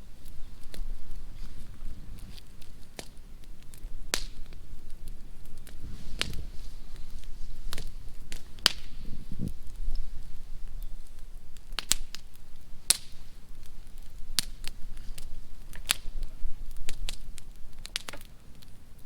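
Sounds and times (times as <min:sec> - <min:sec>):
bonfire crackling and popping: 0:00.0 - 0:19.0.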